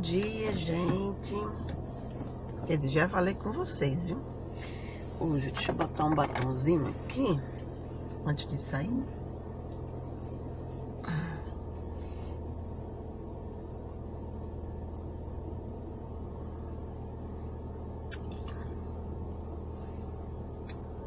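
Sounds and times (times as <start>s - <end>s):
car interior hum: 0.0s - 21.0s.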